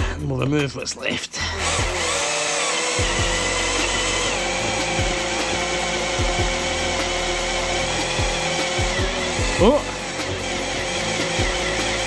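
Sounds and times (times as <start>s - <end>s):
cordless drill whining: 1.4s - 12.0s.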